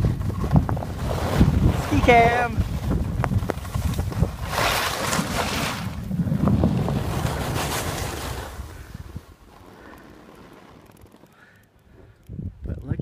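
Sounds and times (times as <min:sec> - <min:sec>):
wind buffeting microphone: 0:00.0 - 0:09.5, 0:11.9 - 0:13.0.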